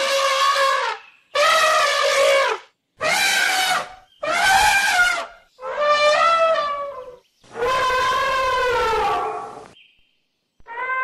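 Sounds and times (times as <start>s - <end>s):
elephant trumpeting: 0.0s - 9.7s.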